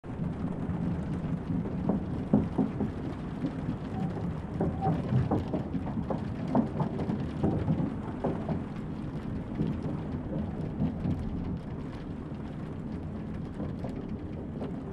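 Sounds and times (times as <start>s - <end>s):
rain pattering on a window: 0.0s - 14.9s
steady low rumble: 0.0s - 14.9s.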